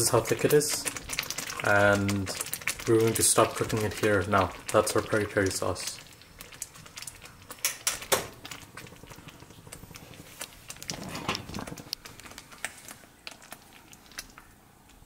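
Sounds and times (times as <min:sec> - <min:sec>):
thick sauce bubbling and popping: 0:00.0 - 0:15.0.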